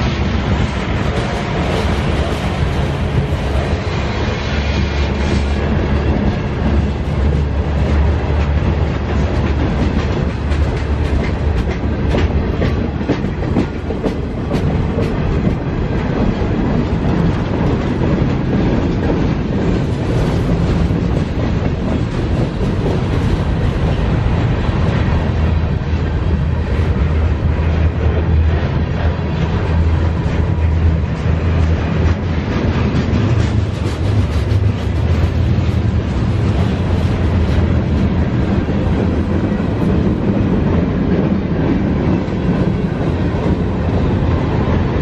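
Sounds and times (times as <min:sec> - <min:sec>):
train wheels rumbling on rail: 0:00.0 - 0:45.0
wheels clicking over rail joints: 0:05.0 - 0:45.0.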